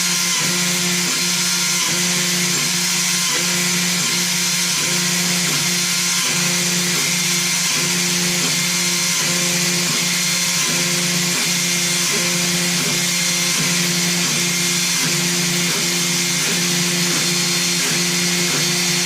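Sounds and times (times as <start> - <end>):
mill spindle hissing and humming: 0.0 - 19.0.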